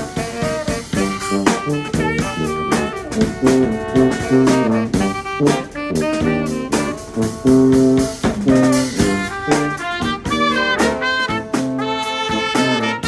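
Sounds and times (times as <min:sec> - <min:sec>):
drum kit: 0:00.0 - 0:13.0
saxophone: 0:00.0 - 0:13.0
trombone: 0:00.0 - 0:13.0
trumpets: 0:00.0 - 0:13.0
tuba bass line: 0:00.0 - 0:13.0.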